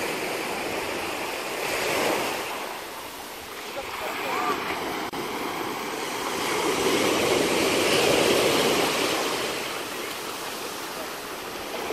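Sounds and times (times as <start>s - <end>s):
sea waves washing onto shore: 0.0s - 11.9s.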